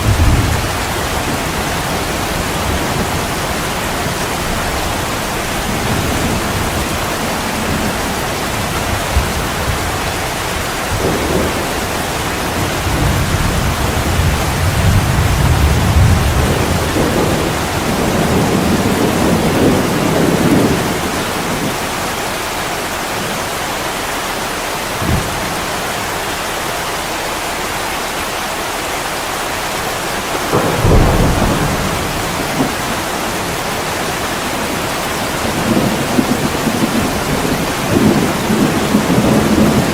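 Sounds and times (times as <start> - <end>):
thunder rumbling: 0.0 - 23.8, 24.4 - 27.5, 29.0 - 39.9
heavy rain on a window: 0.0 - 39.9.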